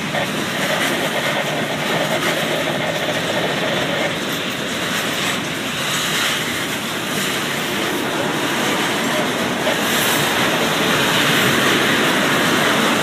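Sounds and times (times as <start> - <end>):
train wheels running on rails: 0.0 - 13.0.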